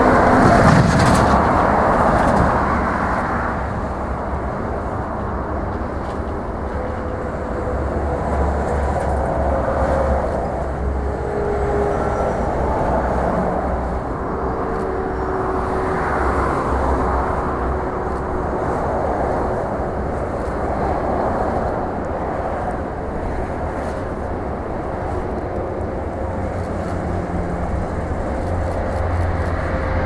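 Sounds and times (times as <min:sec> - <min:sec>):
jet engine noise: 0:00.0 - 0:30.0.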